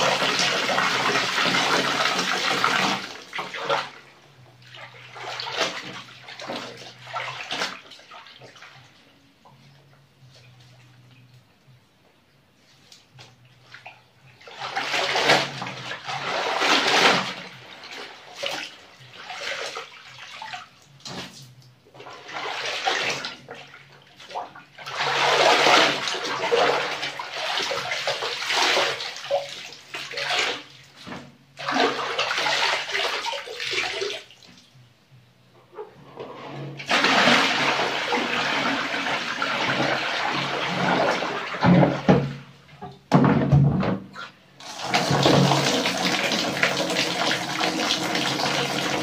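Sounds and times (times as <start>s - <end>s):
water sloshing in a washtub: 0.0s - 11.8s, 12.5s - 49.0s.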